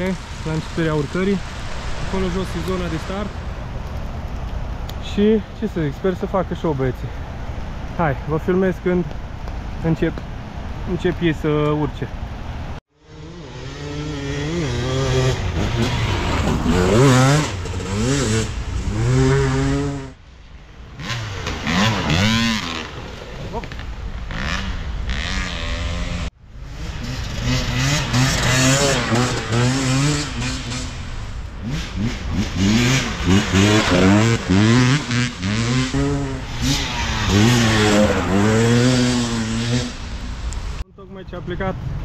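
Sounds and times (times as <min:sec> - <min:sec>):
off-road motorcycles revving: 0:00.0 - 0:20.2, 0:20.9 - 0:40.8.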